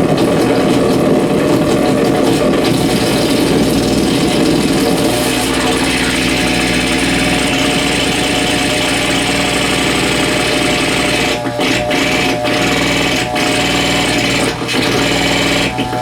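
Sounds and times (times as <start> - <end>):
loud electrical buzzing drone: 2.4 - 16.0.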